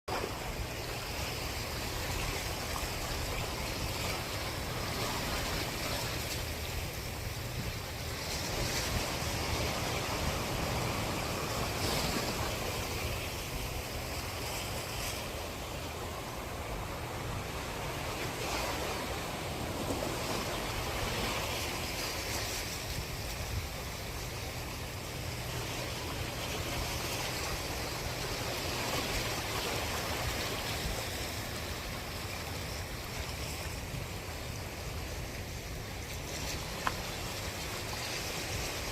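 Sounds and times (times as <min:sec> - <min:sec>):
sea waves washing onto shore: 0:00.1 - 0:38.9
wind rumbling on microphone: 0:00.1 - 0:38.9.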